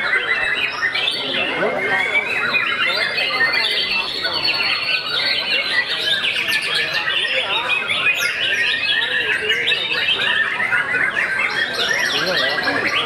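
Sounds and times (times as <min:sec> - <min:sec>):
chorus of birds singing: 0:00.0 - 0:13.0.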